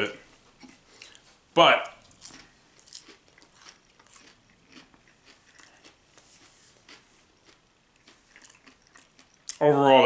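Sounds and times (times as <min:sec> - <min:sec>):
faint crunchy chewing: 0:00.5 - 0:09.8.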